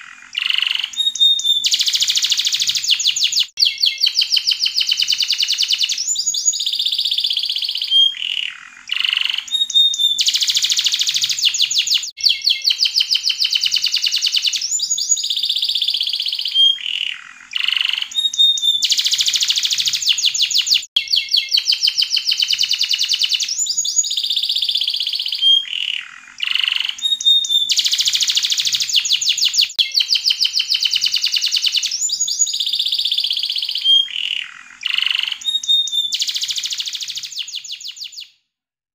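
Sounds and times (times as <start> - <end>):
canary singing trills: 0.0 - 38.3.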